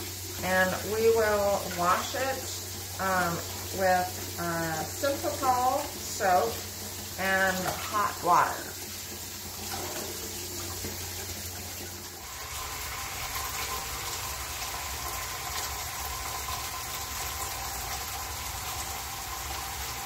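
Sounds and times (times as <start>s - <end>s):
faucet running into tub: 0.0s - 20.0s.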